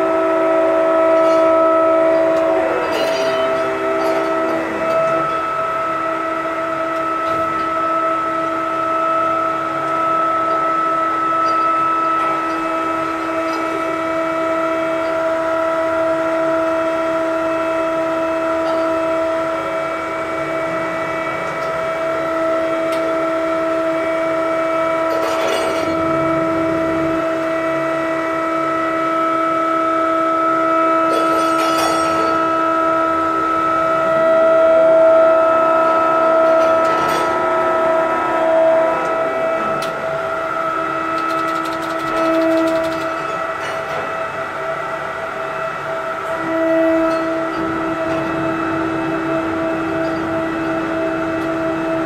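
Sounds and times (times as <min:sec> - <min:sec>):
crane machine whine: 0:00.0 - 0:52.0.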